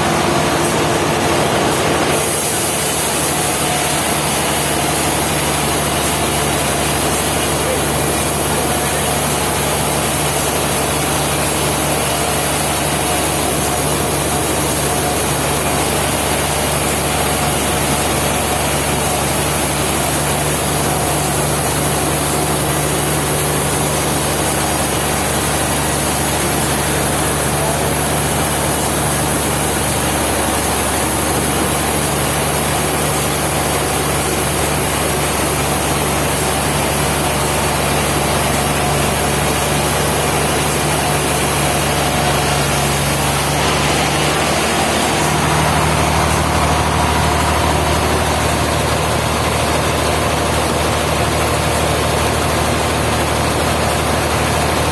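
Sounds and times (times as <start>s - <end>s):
sawmill machinery humming: 0.0s - 54.9s.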